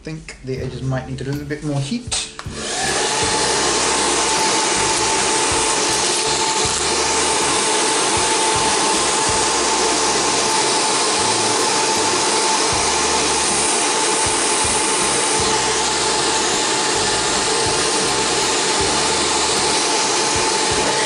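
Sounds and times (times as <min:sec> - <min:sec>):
hair dryer blowing: 0:02.4 - 0:21.0.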